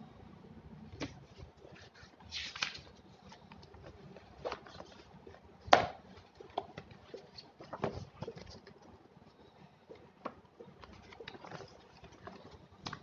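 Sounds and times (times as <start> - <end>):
paper and book covers rustling: 1.0 - 13.0.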